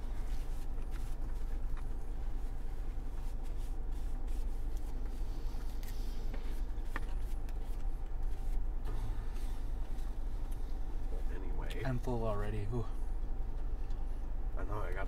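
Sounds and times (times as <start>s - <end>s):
steady low car hum: 0.0s - 15.0s.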